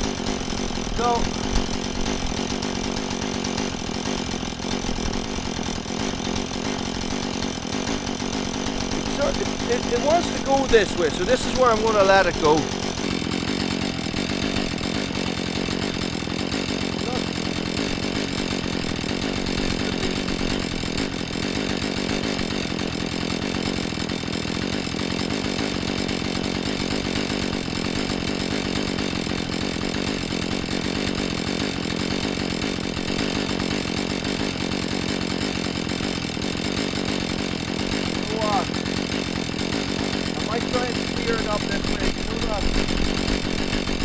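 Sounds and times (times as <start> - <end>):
chainsaw cutting into tree trunk: 0.0 - 44.0.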